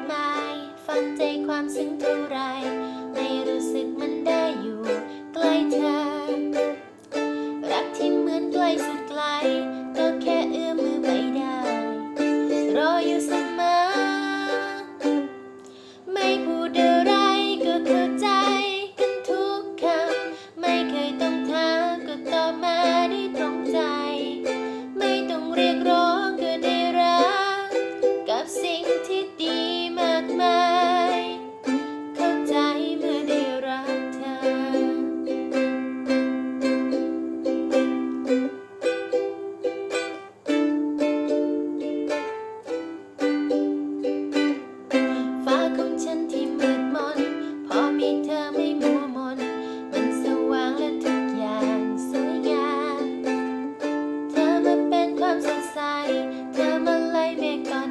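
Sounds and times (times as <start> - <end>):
ukulele chords: 0.0 - 57.9.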